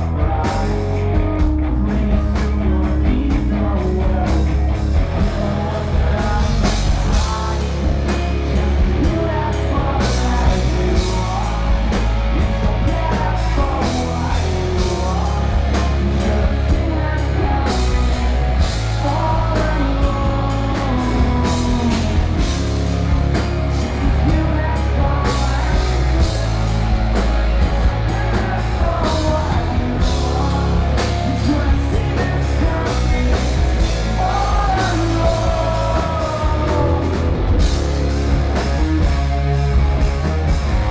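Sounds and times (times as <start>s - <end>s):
man singing lead vocal: 0.0s - 40.9s
rock band playing live: 0.0s - 40.9s.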